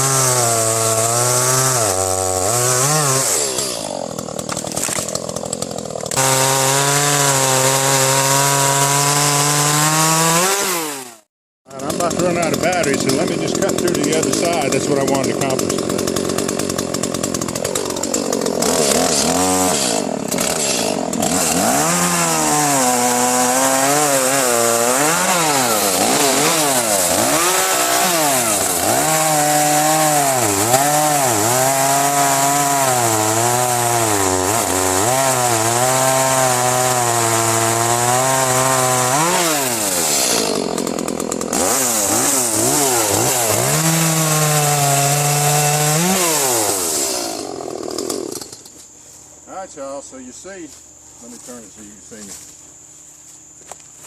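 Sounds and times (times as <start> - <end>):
chainsaw cutting through log: 0.0 - 48.9.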